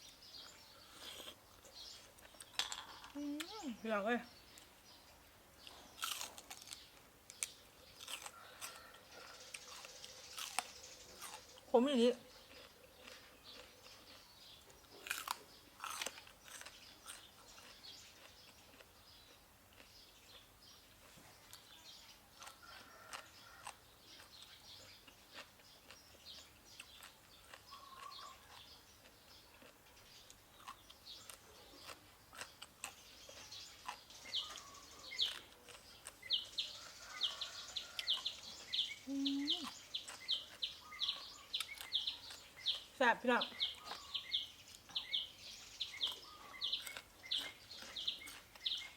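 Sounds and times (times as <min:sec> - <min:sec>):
person chewing crunchy food: 0:00.0 - 0:03.6, 0:05.6 - 0:48.9
bird chirping: 0:00.0 - 0:48.9.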